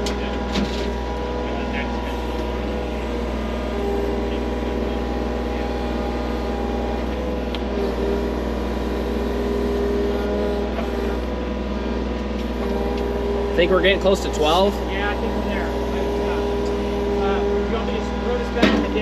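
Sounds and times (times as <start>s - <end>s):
skid loader engine running: 0.0s - 19.0s.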